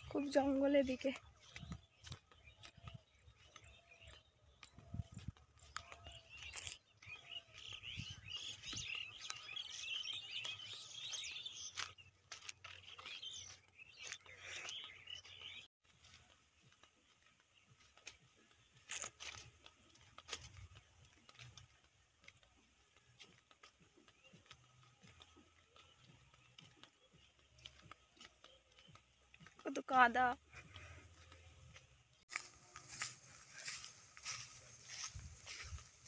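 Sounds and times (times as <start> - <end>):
chorus of birds chirping: 0.0 - 36.0.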